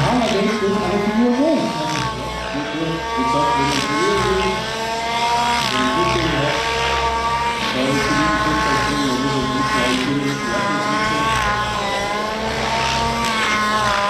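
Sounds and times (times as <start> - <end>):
model helicopter engine buzzing: 0.0 - 14.0.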